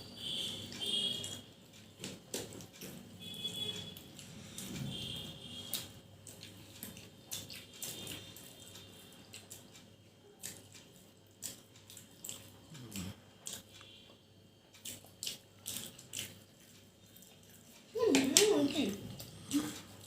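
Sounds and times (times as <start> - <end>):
people chewing: 0.3 - 20.0.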